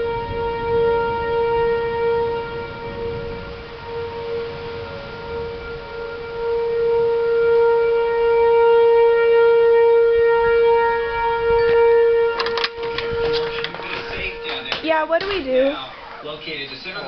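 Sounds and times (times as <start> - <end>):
warning siren steady tone: 0.0 - 16.2.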